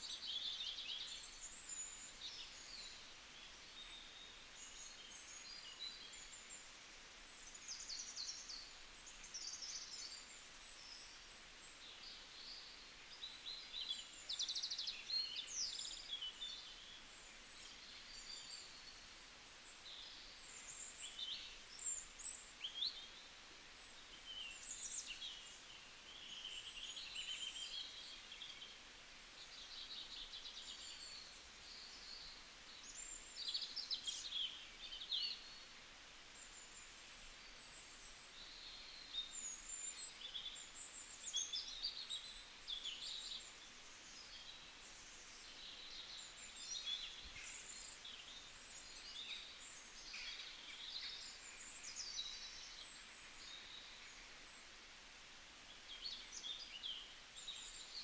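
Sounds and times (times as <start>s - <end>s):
small birds chirping and trilling: 0.0s - 54.8s
faint steady hiss: 0.0s - 58.0s.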